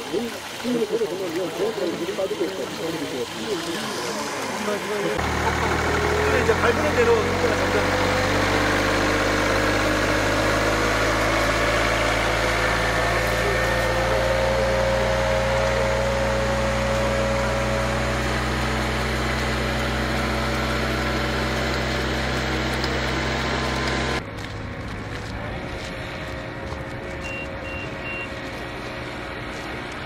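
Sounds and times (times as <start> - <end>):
machine engine running: 3.2 - 29.9.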